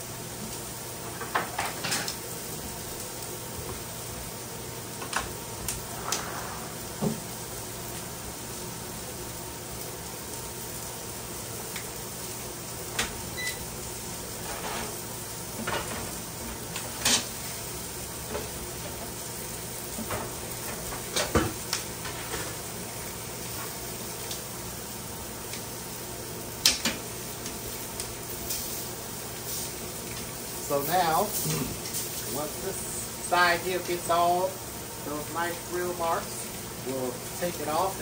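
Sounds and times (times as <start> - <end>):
chicken sizzling on a grill pan: 0.0 - 38.0.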